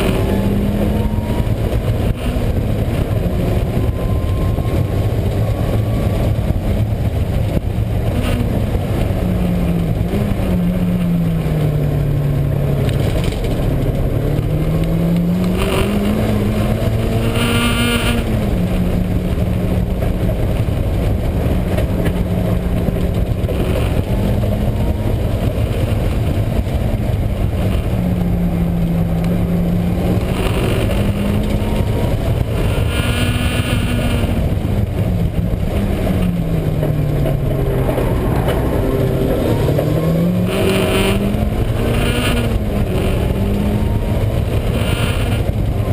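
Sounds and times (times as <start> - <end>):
car engine and road rumble: 0.0 - 45.9
wheel bearing drone: 0.0 - 45.9.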